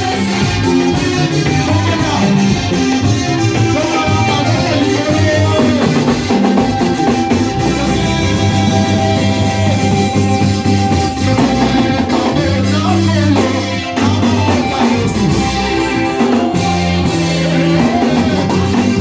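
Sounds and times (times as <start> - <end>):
drum kit: 0.0 - 19.0
guitar playing: 0.0 - 19.0.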